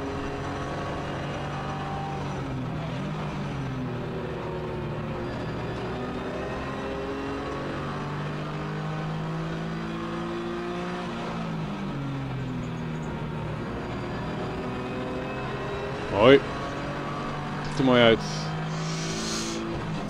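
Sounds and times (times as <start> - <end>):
racing engine pulling hard: 0.0 - 20.0
wind and tyre noise: 0.0 - 20.0.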